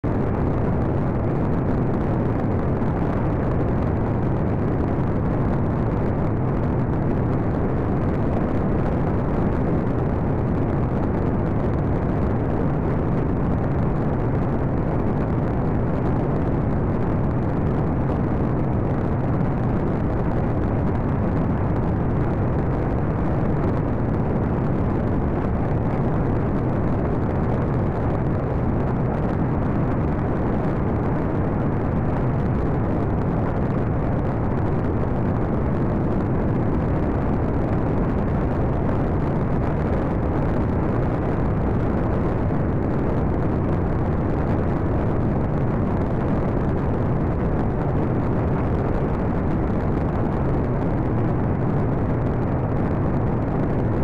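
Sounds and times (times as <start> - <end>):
propeller plane engine drone: 0.0 - 54.0
rush of air in flight: 0.0 - 54.0.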